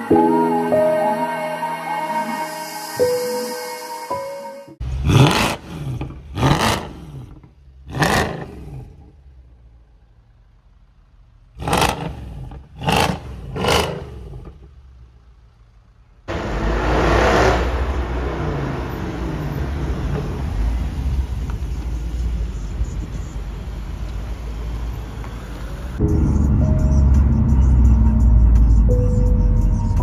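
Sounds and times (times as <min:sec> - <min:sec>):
car engine idling: 0:04.8 - 0:16.9, 0:17.6 - 0:29.9
car driving with loud engine: 0:04.8 - 0:30.0
car engine revving: 0:04.8 - 0:30.0.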